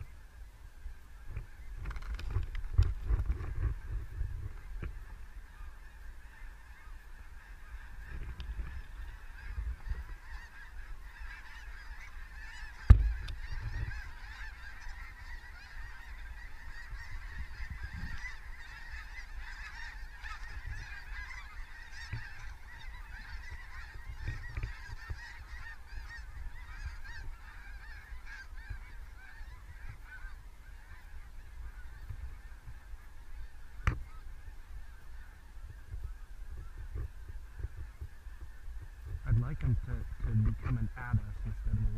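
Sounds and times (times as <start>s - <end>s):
geese honking: 0.0s - 41.9s.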